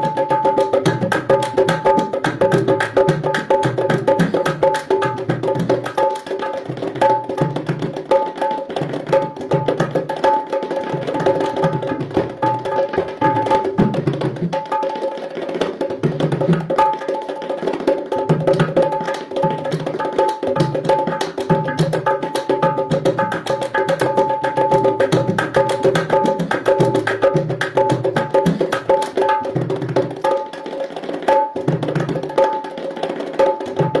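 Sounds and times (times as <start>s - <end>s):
dhol drum ringtone music: 0.0s - 34.0s.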